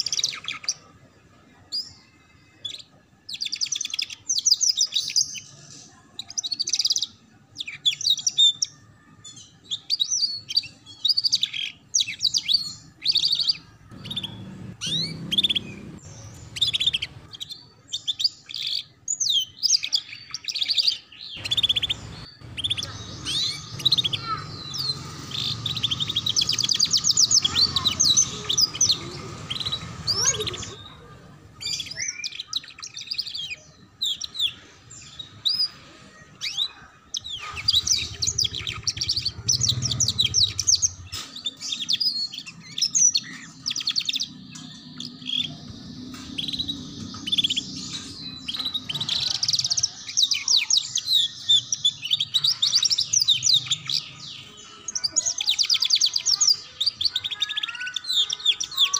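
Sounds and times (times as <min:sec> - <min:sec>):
canary chirping and trilling: 0:00.0 - 0:58.9.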